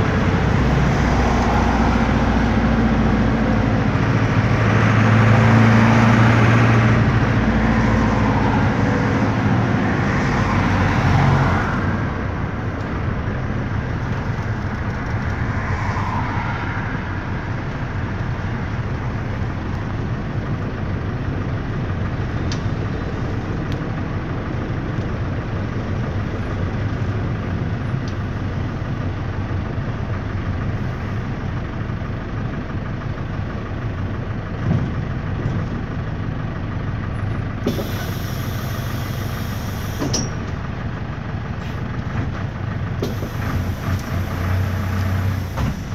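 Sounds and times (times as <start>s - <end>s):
diesel engine running inside cabin: 0.0s - 45.9s.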